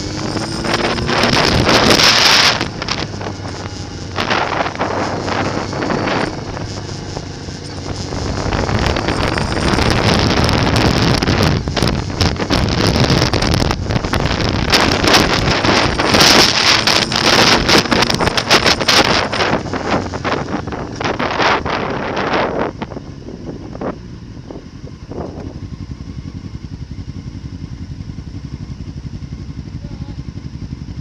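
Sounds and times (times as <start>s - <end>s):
wind buffeting microphone: 0.0s - 26.0s
motorcycle engine: 0.0s - 31.0s.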